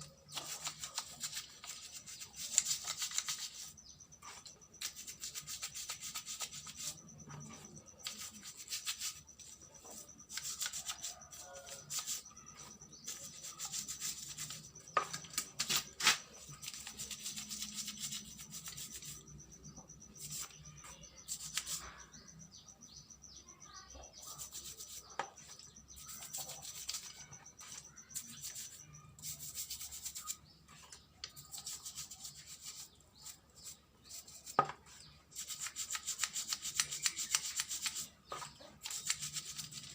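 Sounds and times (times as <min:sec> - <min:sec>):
brush scrubbing metal parts: 0:00.0 - 0:19.4, 0:20.2 - 0:21.9, 0:24.1 - 0:39.9.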